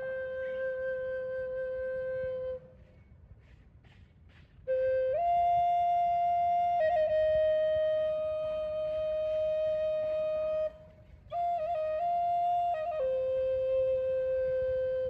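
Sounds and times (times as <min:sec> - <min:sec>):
flute playing slow melody: 0:00.0 - 0:03.6, 0:04.6 - 0:15.0.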